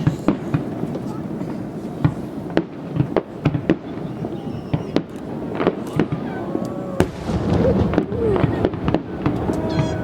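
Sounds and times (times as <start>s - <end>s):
fireworks bangs: 0.0s - 10.0s
fireworks crackling rumble: 0.0s - 10.0s.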